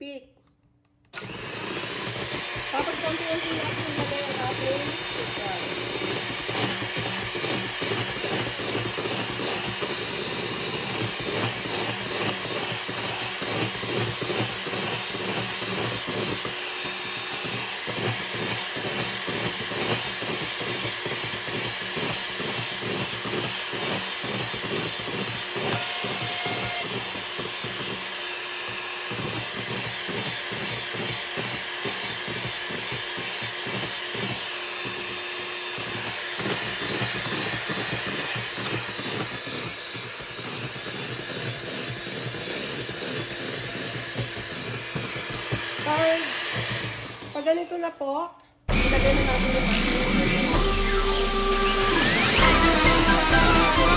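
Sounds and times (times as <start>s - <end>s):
electric hand mixer whipping: 1.1s - 47.9s, 48.7s - 53.9s.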